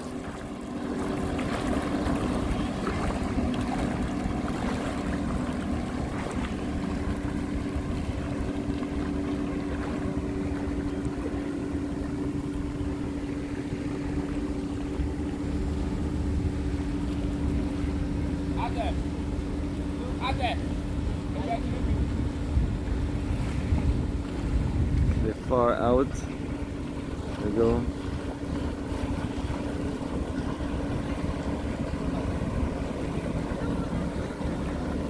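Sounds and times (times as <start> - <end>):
jet ski engine drone: 0.0 - 35.0.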